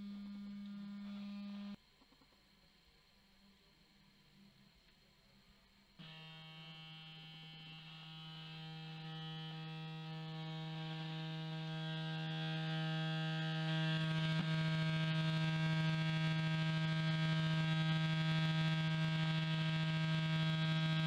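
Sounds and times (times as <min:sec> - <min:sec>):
low buzzy tone from loudspeaker: 0:03.4 - 0:21.0.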